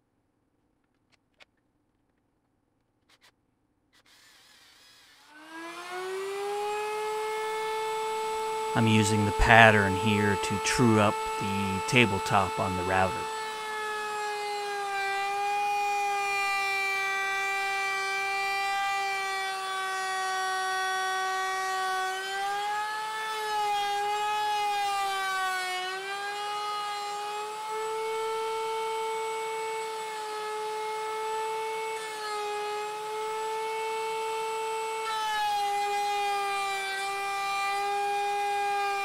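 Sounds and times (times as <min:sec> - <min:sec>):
router whining through wood: 0:03.0 - 0:39.0.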